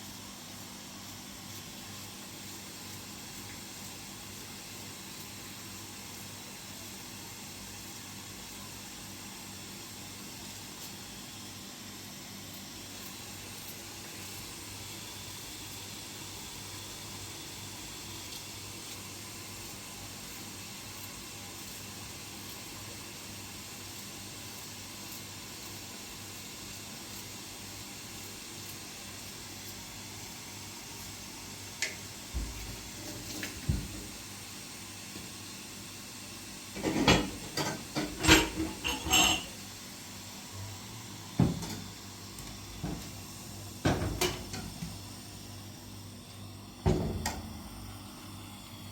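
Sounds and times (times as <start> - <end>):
steady hiss: 0.0 - 48.9.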